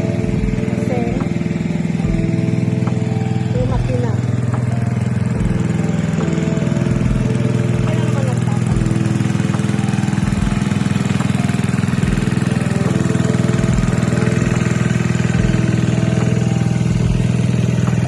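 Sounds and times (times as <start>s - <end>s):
small petrol water pump running: 0.0s - 18.0s.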